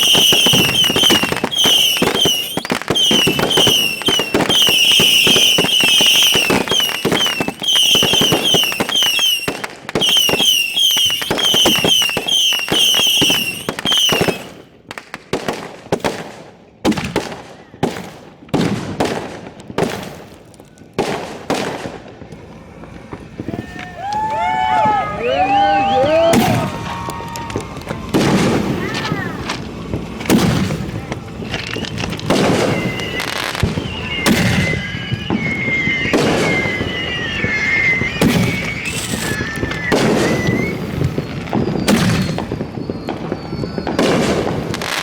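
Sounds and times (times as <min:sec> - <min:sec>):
high chirping firework tones: 0:00.0 - 0:14.6, 0:20.6 - 0:45.0
single loud firework bangs: 0:00.0 - 0:14.6, 0:23.0 - 0:45.0
fireworks barrage bangs and crackle: 0:00.0 - 0:45.0.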